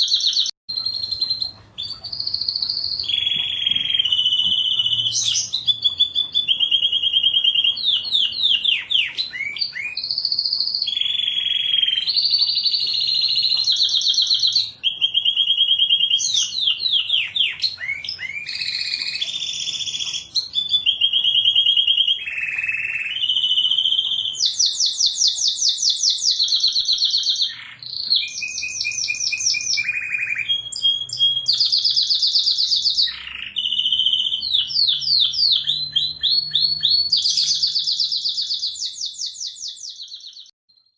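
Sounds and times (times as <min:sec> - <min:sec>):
canary singing: 0:00.0 - 0:40.5.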